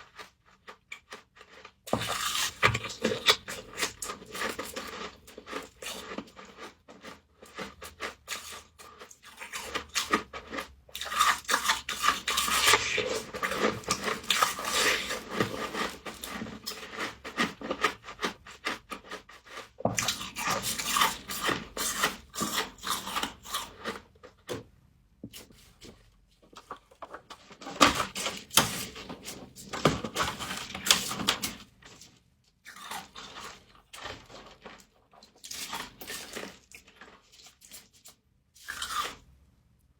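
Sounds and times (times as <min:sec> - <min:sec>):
crunching and chewing frost: 0:00.0 - 0:39.4.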